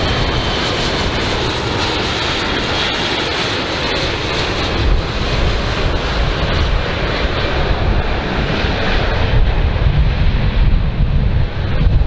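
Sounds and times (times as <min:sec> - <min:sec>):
turboprop aircraft flying overhead: 0:00.0 - 0:12.0
wind rumble on microphone: 0:00.0 - 0:12.0.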